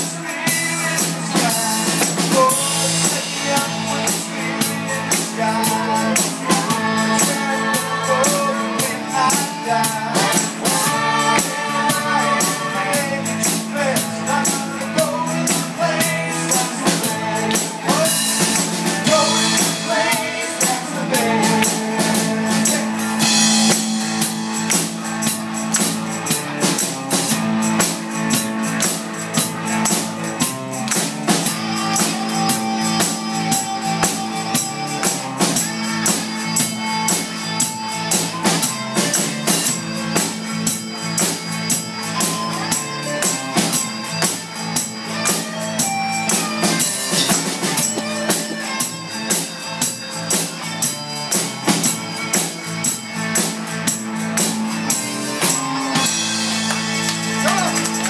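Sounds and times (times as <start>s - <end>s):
drum kit beat: 0.0s - 58.0s
live band playing: 0.0s - 58.0s
tambourine shaking: 0.0s - 58.0s.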